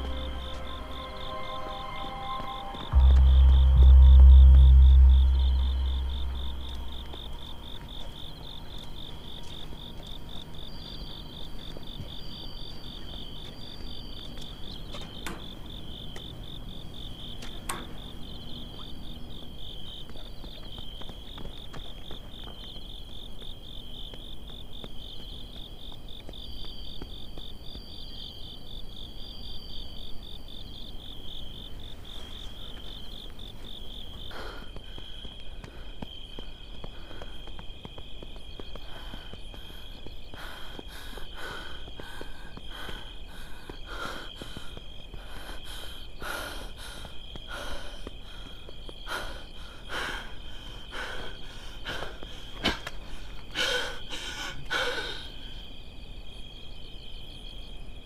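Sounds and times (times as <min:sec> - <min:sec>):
crickets chirping: 0:00.0 - 0:58.0
higher insect chirping: 0:00.0 - 0:58.0.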